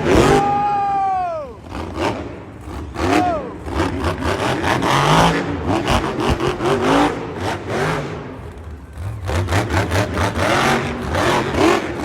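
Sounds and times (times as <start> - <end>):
truck engine revving hard: 0.0 - 0.9, 1.6 - 12.0.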